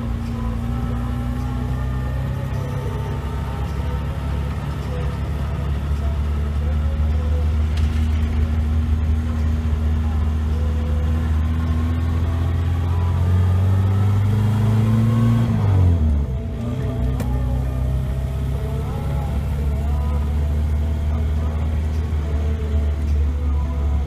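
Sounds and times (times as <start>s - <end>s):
car engine heard from inside: 0.0s - 24.0s.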